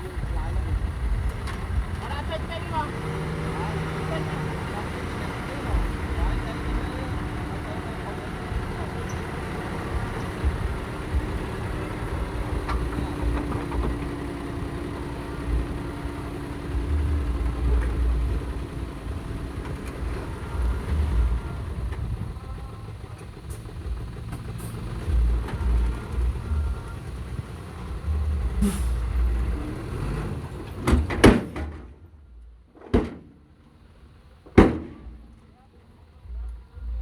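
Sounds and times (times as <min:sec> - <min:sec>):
heavy vehicle engine rumble: 0:00.0 - 0:37.0
steady engine hum: 0:00.0 - 0:37.0.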